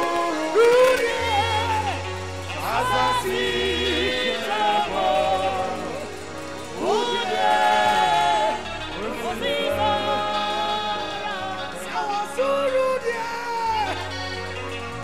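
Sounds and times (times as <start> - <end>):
band playing gospel music: 0.0 - 15.0.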